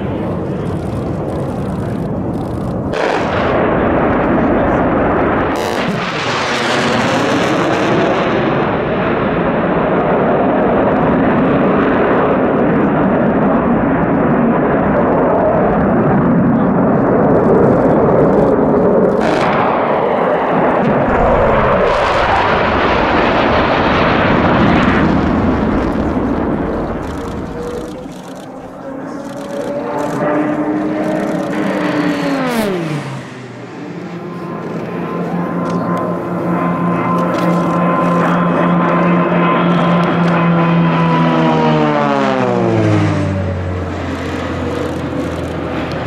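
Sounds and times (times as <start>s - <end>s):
fighter jets flying low: 0.0s - 46.0s.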